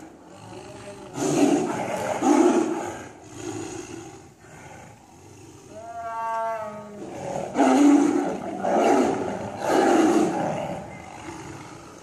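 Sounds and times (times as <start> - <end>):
tigers roaring: 0.0 - 12.0.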